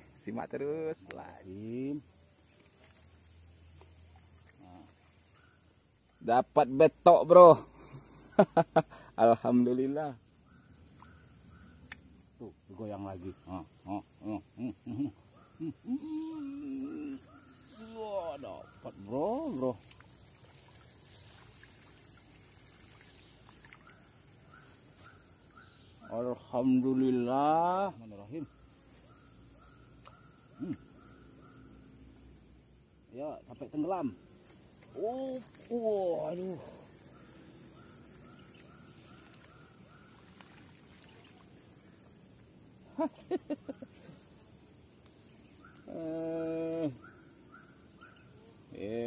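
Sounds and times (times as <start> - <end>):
faint high hiss: 0.0 - 49.0.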